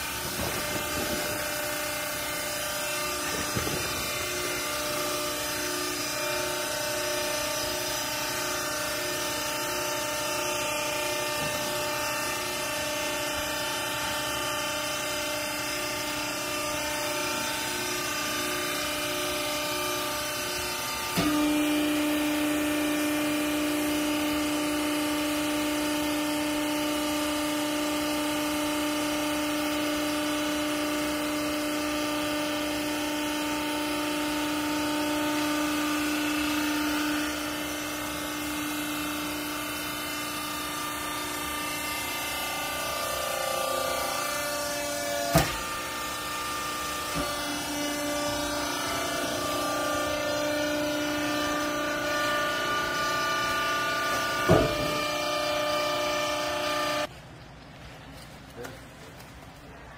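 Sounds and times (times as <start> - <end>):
hydraulic pump humming: 0.0 - 57.1.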